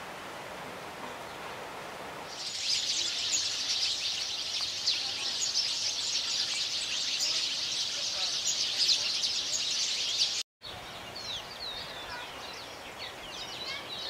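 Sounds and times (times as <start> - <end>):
small birds chirping: 2.3 - 14.0.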